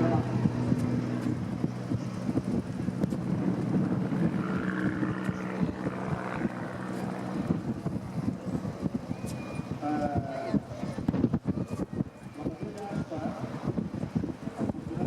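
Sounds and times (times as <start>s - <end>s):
light aircraft engine and propeller: 0.0s - 15.0s
wind buffeting microphone: 0.0s - 15.0s.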